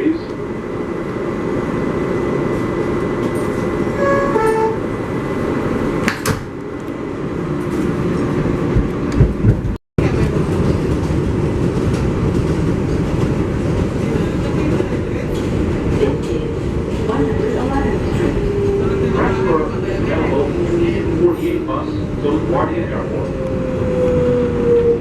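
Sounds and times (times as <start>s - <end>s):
subway car running noise: 0.0s - 25.0s.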